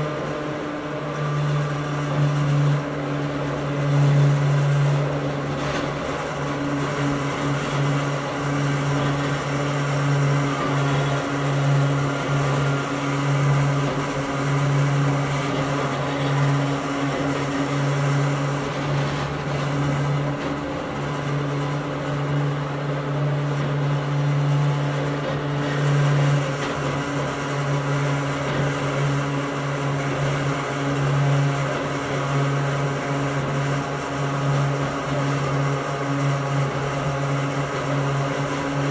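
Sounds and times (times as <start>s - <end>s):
electric train motor hum: 0.0s - 38.9s.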